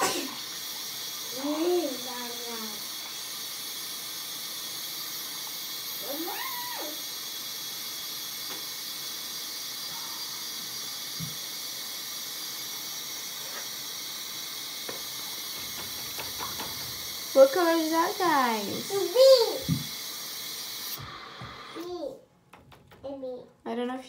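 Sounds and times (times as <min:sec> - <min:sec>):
water running into a balloon: 0:00.0 - 0:23.0.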